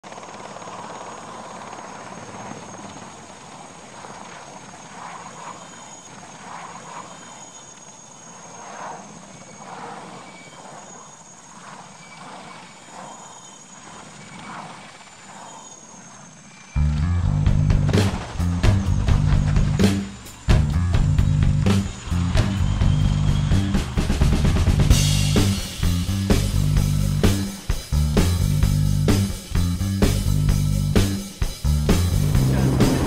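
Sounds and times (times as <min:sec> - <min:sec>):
helicopter rotor and turbine noise: 0:00.0 - 0:33.0
thin high whine: 0:02.6 - 0:29.5.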